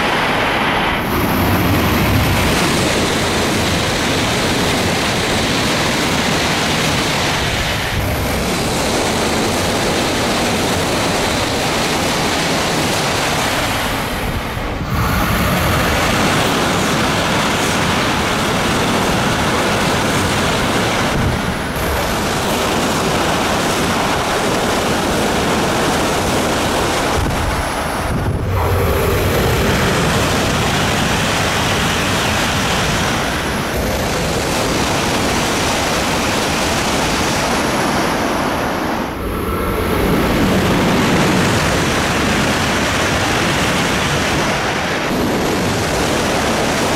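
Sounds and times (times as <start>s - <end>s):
high-speed trains passing: 0.0s - 46.9s.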